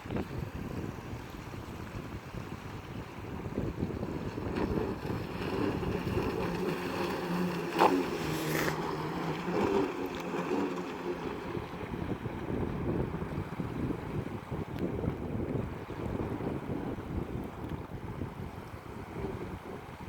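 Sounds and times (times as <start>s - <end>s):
wind buffeting microphone: 0.0s - 20.0s
low motor hum: 1.7s - 20.0s.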